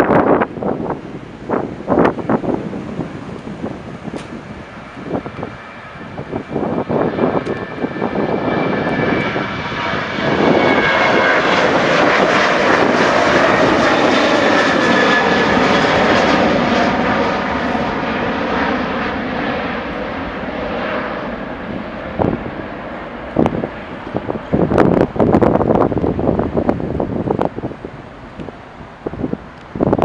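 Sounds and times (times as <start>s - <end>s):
high engine whine: 0.0s - 30.0s
jet engines roaring: 0.0s - 30.0s.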